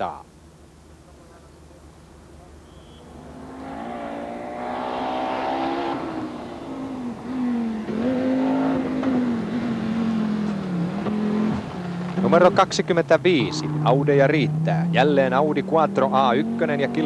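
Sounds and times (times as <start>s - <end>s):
rally car engine revving: 3.0s - 17.0s.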